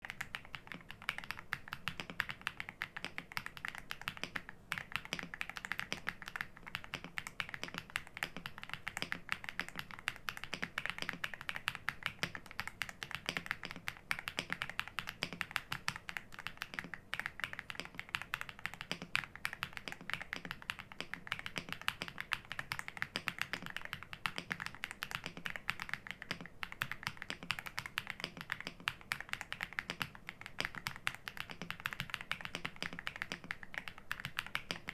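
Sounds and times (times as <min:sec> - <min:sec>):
mechanical keyboard typing: 0:00.0 - 0:34.9.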